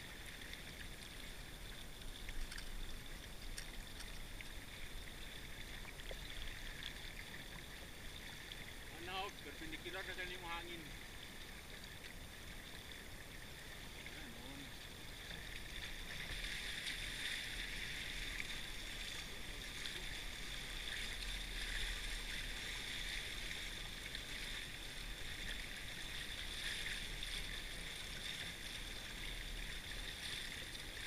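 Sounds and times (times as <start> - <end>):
water rushing along hulls: 0.0 - 31.0.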